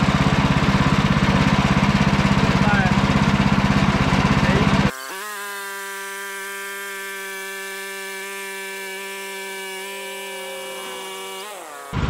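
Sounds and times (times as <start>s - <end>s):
bandsaw mill cutting log: 0.0s - 12.0s
gas engine at full throttle: 0.0s - 12.0s.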